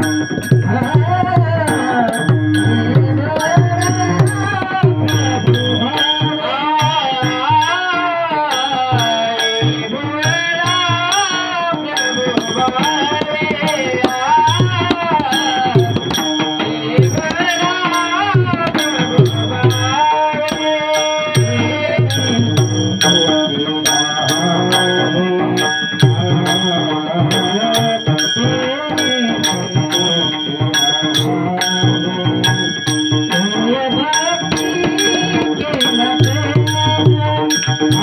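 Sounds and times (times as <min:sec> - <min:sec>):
drum strokes: 0:00.0 - 0:38.0
man singing devotional song: 0:00.0 - 0:38.0.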